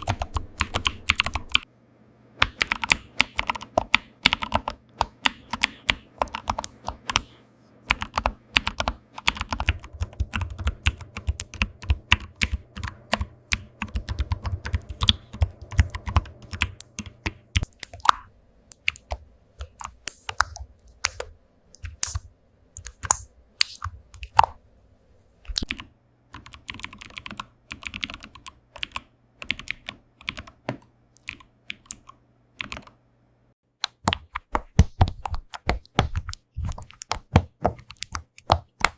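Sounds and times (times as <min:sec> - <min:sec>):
keyboard typing clicks: 0:00.0 - 0:01.7, 0:02.4 - 0:07.3, 0:07.9 - 0:24.6, 0:25.5 - 0:33.0, 0:33.8 - 0:38.9
low steady hum: 0:00.0 - 0:33.6.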